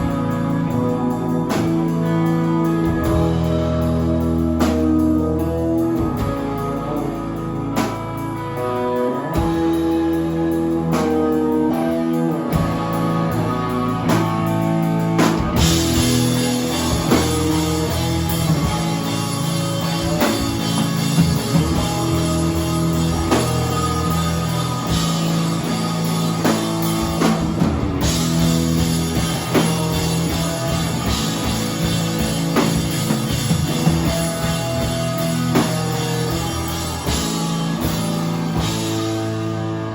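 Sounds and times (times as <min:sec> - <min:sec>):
guitar and bass riff: 0:00.0 - 0:39.9
rock band playing live: 0:00.0 - 0:39.9.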